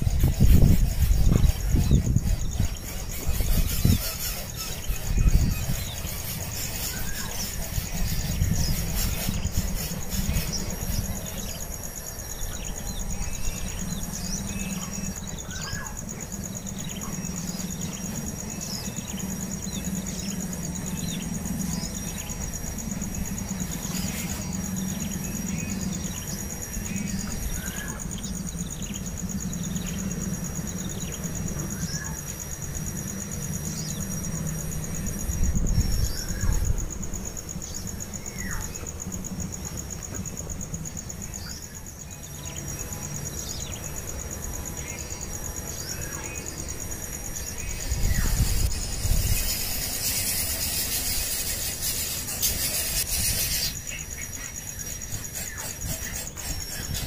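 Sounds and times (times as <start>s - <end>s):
high insect drone: 0.0s - 57.0s
pulsing insect trill: 0.0s - 57.0s.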